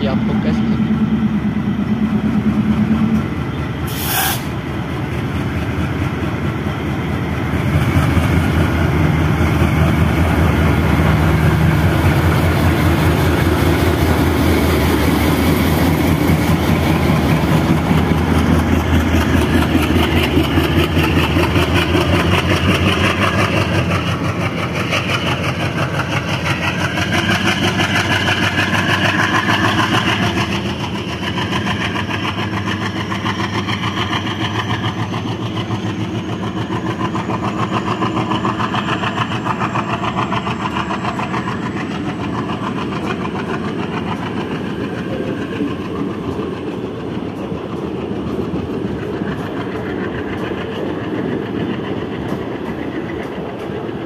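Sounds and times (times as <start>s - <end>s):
diesel locomotive engine throttling: 0.0s - 54.0s.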